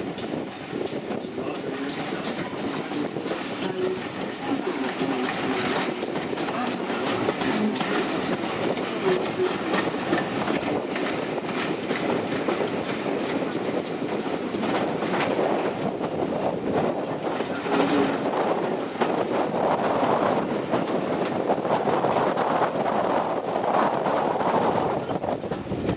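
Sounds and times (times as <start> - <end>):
wheels clicking over rail joints: 0.0 - 22.8
train carriages rumbling on track: 0.0 - 25.9.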